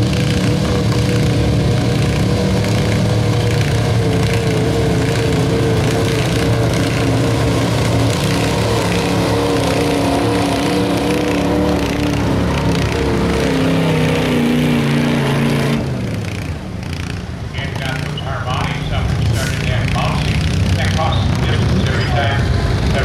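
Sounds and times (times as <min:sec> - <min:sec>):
truck engine running hard: 0:00.0 - 0:23.0.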